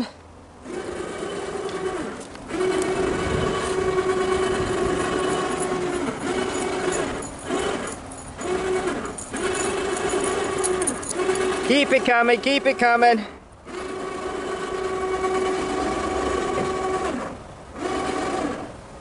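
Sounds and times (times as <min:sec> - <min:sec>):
electric winch motor whine: 0:00.6 - 0:18.8.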